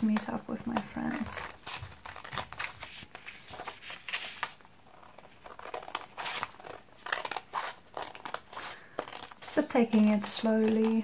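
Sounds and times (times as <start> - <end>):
paper rustling: 0.0 - 11.0
scissors snipping paper: 0.0 - 11.0.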